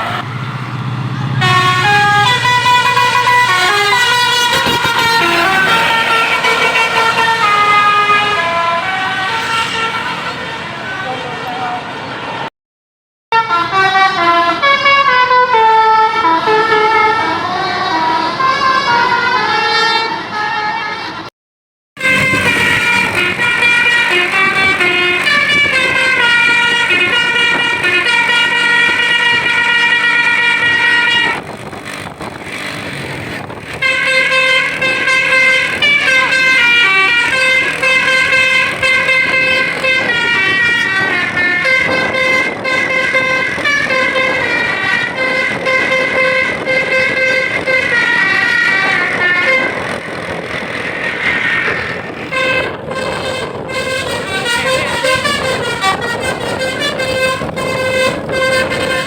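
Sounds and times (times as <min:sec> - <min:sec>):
bus multi-tone horn melody: 0:00.0 - 0:12.5, 0:13.3 - 0:21.3, 0:22.0 - 0:59.0.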